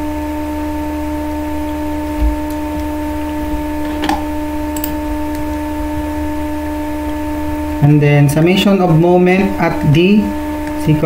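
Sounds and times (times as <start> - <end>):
electrical hum with whine: 0.0 - 11.0.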